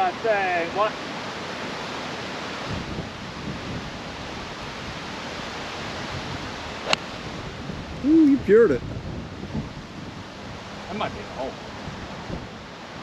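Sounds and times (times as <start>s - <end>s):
strong wind on microphone: 2.5s - 13.0s.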